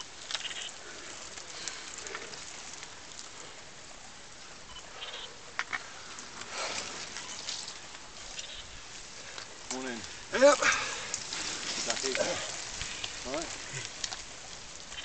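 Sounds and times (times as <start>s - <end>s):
bicycle tyres hissing on wet road: 0.0s - 15.0s.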